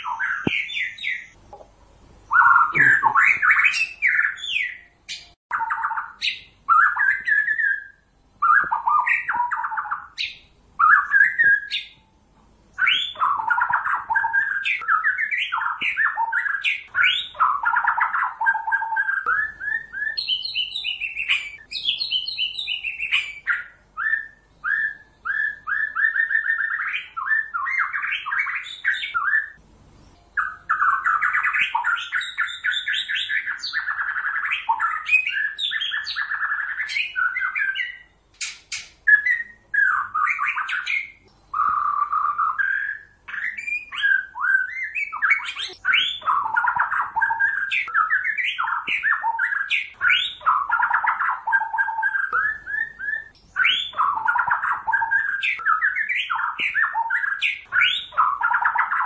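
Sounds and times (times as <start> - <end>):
songbird whistling and chattering: 0.0 - 1.4, 2.3 - 12.1, 12.7 - 59.0.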